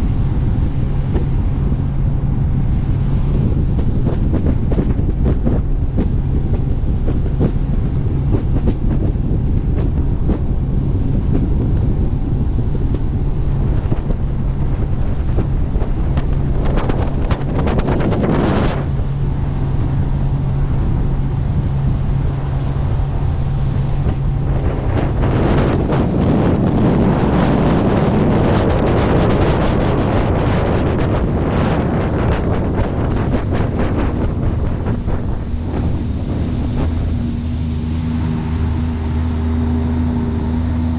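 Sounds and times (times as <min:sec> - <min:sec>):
boat engine hum: 0:00.0 - 0:40.9
water rushing: 0:00.0 - 0:40.9
wind noise on microphone: 0:00.0 - 0:40.9.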